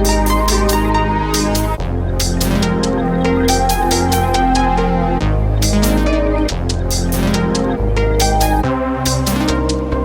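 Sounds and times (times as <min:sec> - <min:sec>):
crisp high percussion beat: 0:00.0 - 0:10.0
heavy sub-bass: 0:00.0 - 0:10.0
synth chords: 0:00.0 - 0:10.0.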